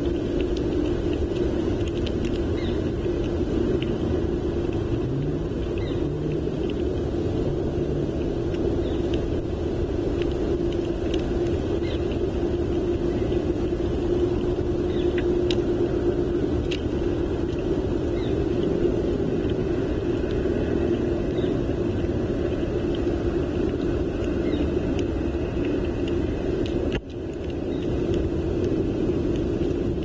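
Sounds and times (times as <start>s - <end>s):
constant low hum: 0.0s - 30.0s
wind rumble on microphone: 0.0s - 30.0s.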